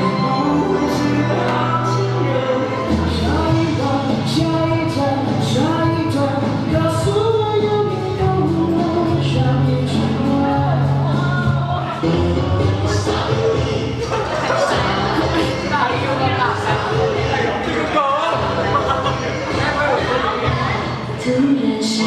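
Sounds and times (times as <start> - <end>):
held bass notes: 0.0 - 21.5
sung melody: 0.0 - 22.0.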